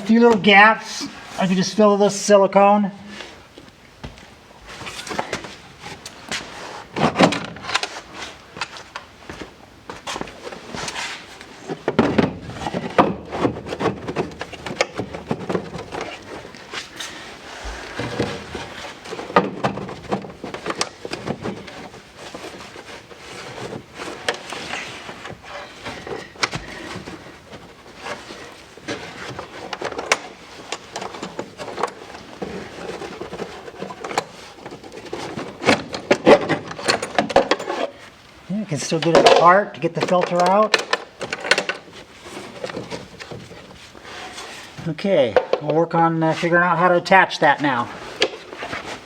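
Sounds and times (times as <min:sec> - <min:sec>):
plastic parts knocking and scraping: 0:03.2 - 0:45.9, 0:47.8 - 0:49.0.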